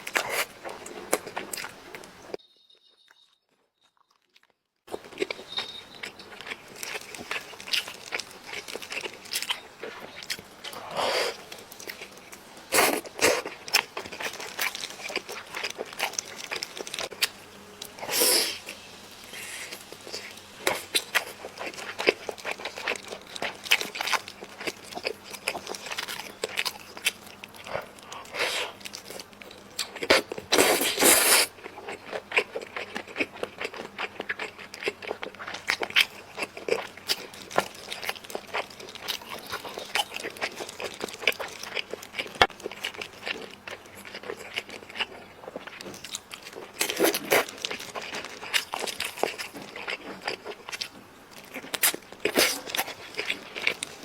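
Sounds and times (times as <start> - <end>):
close chewing and biting: 4.0 - 18.8, 19.4 - 54.0.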